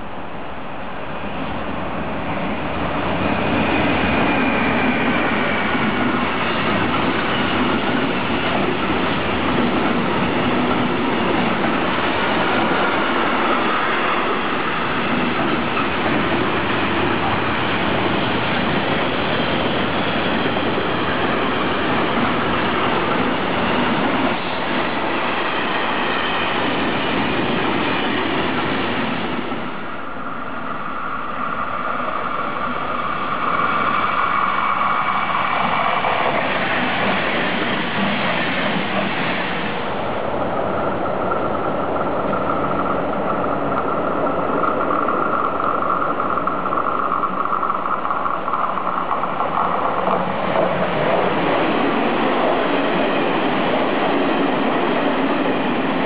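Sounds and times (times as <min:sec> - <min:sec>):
freight train rumbling past: 0:00.0 - 0:56.0
passenger train high whine: 0:00.0 - 0:56.0.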